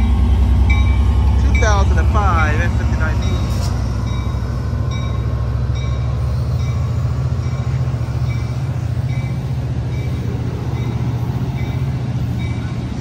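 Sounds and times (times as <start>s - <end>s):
diesel locomotive rumble: 0.0s - 13.0s
locomotive bell ringing: 0.0s - 13.0s
train wheel and rail noise: 0.0s - 13.0s.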